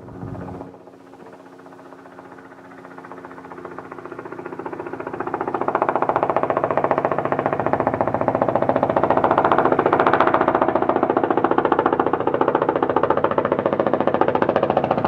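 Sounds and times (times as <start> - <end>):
helicopter engine hum: 0.0 - 15.0
helicopter rotor beating: 0.0 - 15.0.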